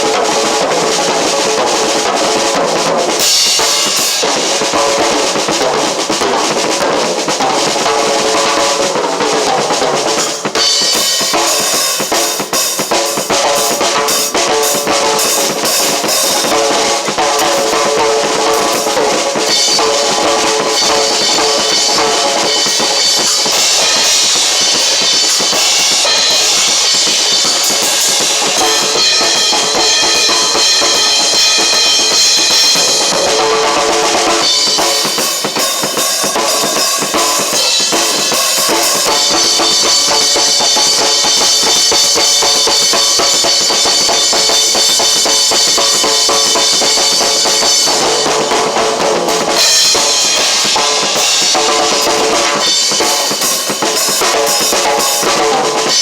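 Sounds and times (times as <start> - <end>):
bass drum: 0.0 - 56.0
snare drum: 0.0 - 56.0.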